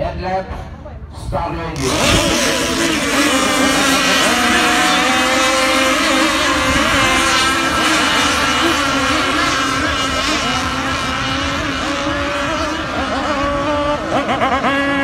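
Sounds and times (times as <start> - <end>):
racing boat engines: 1.7 - 15.0.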